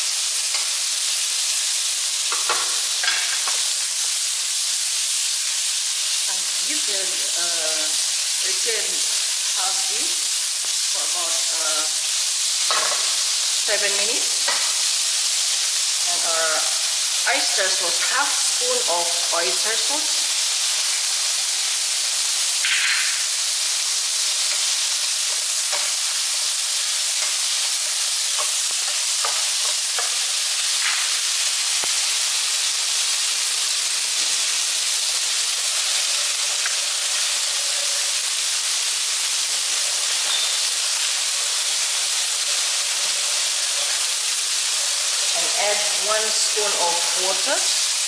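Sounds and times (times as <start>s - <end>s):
vegetables sizzling in a frying pan: 0.0s - 48.0s.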